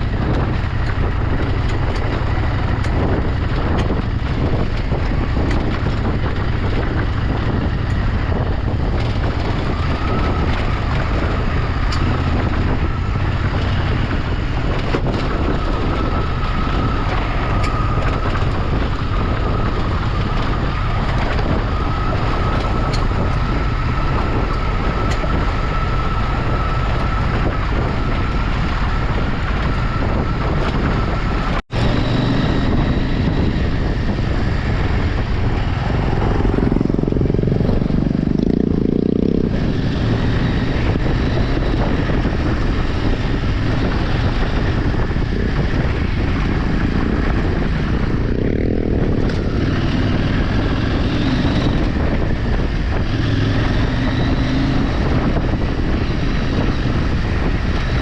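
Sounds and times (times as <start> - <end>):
vehicle driving off-road: 0.0 - 58.0
wind noise: 0.0 - 58.0.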